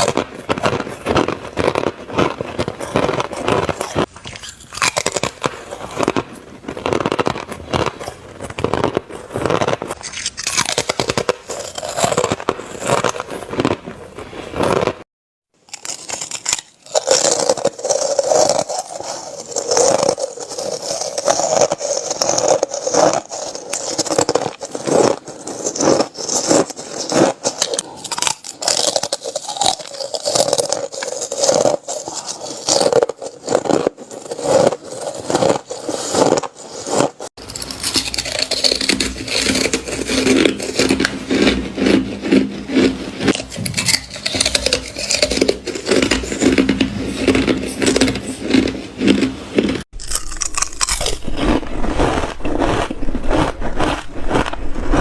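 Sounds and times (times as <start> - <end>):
ice being chewed and crunched: 0.0 - 15.0, 15.6 - 55.0.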